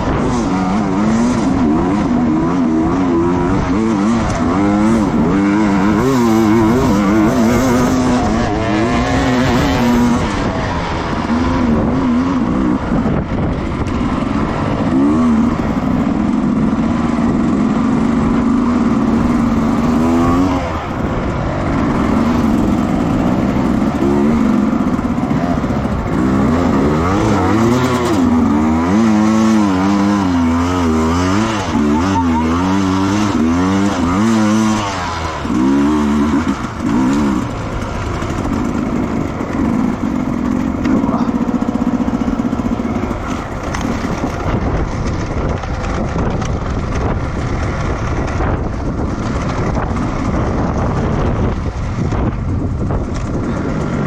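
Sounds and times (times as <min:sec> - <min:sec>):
racing motorcycle engine revving: 0:00.0 - 0:54.0.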